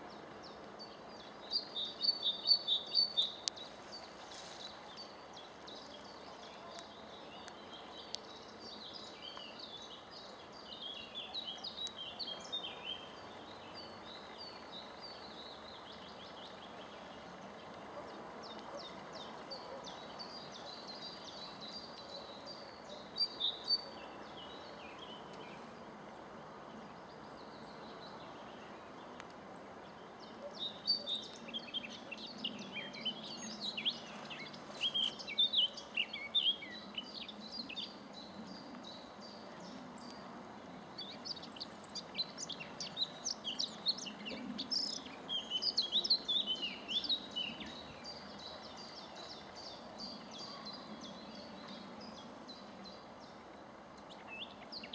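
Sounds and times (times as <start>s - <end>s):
low background hiss: 0.0s - 54.9s
songbird chirping: 0.0s - 54.9s.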